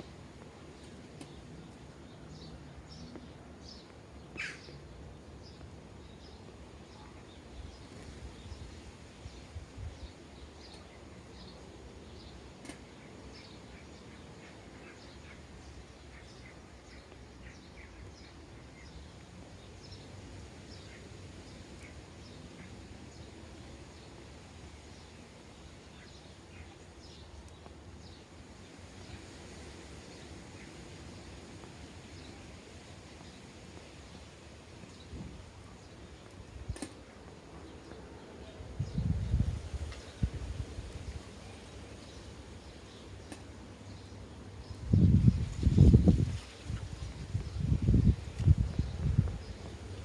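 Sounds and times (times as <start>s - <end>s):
sparrows chirping: 0.0s - 50.0s.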